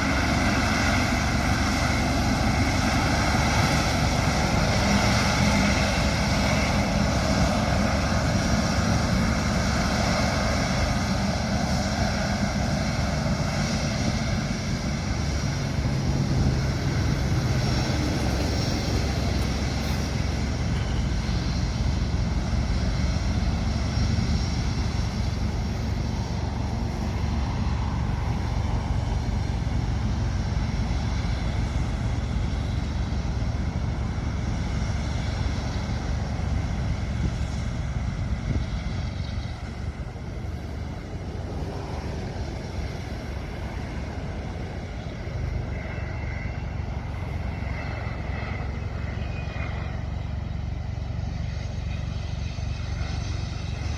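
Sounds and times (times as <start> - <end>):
jet engines running: 0.0 - 53.9.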